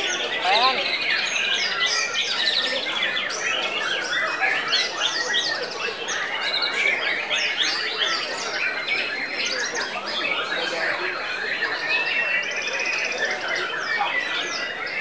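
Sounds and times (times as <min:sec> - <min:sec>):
birds singing chorus: 0:00.0 - 0:15.0.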